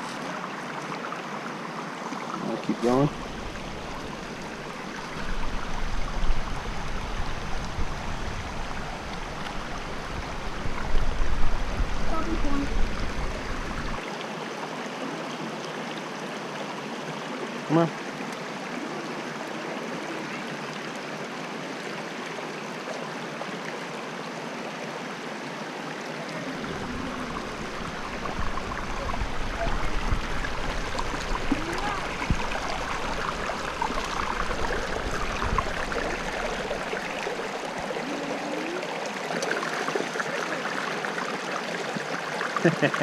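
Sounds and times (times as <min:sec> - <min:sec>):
stream water flowing: 0:00.0 - 0:43.0.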